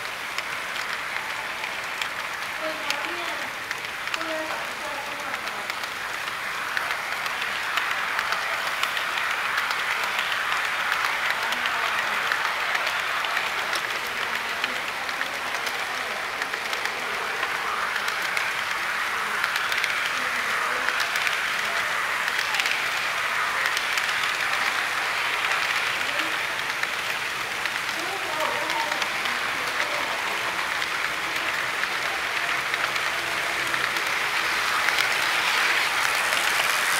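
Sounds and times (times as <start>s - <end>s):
model train wheels on rails: 0.0s - 36.9s.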